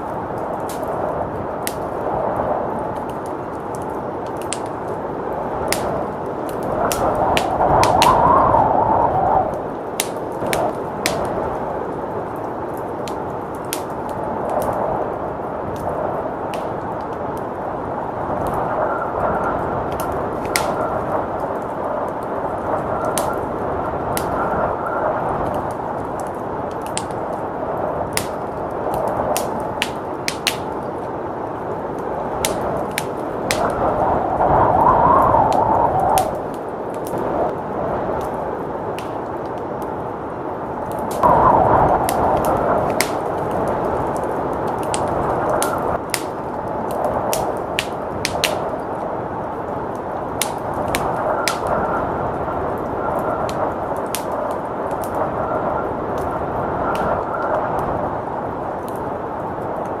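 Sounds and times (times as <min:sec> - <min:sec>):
blizzard wind: 0:00.0 - 1:00.0
wood fire crackling: 0:00.0 - 1:00.0.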